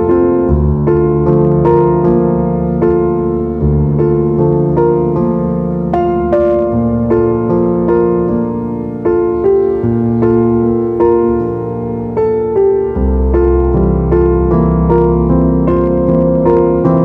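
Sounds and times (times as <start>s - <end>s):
gentle solo piano music: 0.0s - 17.0s.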